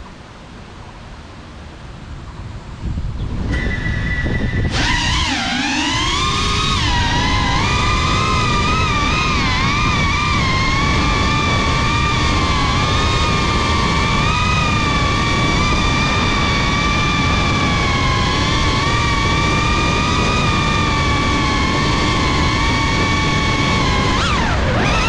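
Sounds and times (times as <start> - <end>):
rushing noise: 2.6 - 25.0
drone motors whining: 3.4 - 25.0.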